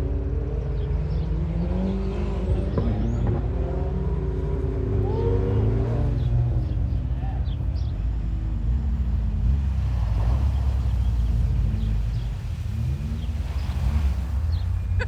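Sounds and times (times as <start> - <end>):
car engine revving under load: 0.0 - 15.0.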